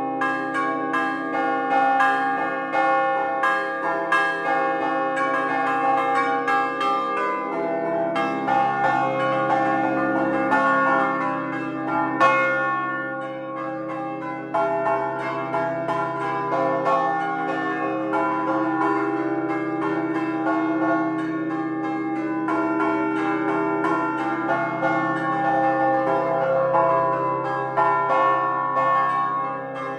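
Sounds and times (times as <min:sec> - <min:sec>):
church bells ringing: 0:00.0 - 0:29.9.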